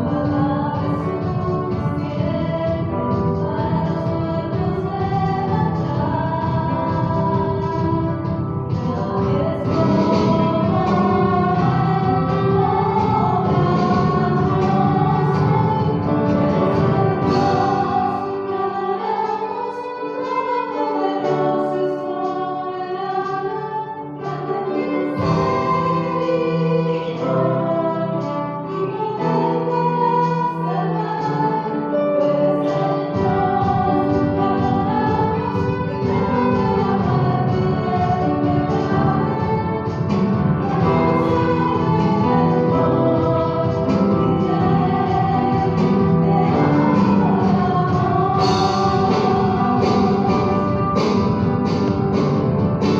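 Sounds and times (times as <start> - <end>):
choir singing: 0.0 - 52.9
instrumental accompaniment: 0.0 - 52.9.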